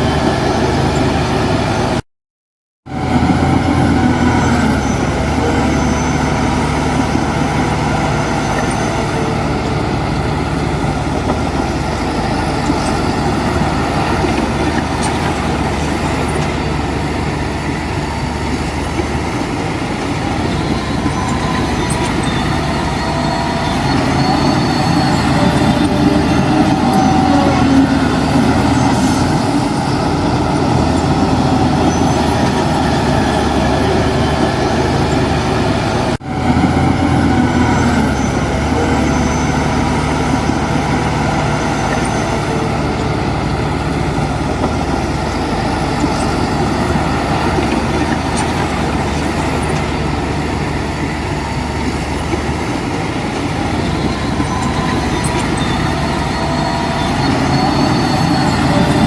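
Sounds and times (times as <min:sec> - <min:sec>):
heavy diesel engine humming: 0:00.0 - 0:02.0, 0:02.9 - 0:59.0.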